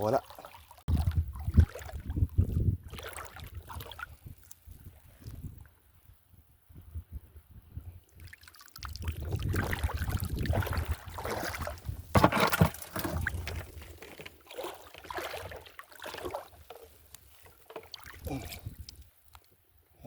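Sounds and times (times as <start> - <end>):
water sloshing and splashing: 0.0 - 5.5, 8.2 - 19.5.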